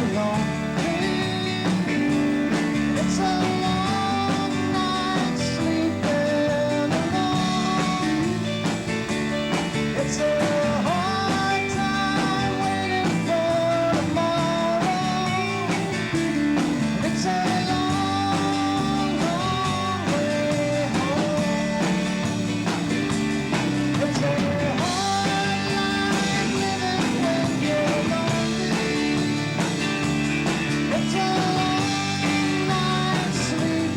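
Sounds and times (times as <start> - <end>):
live rock band: 0.0 - 33.9.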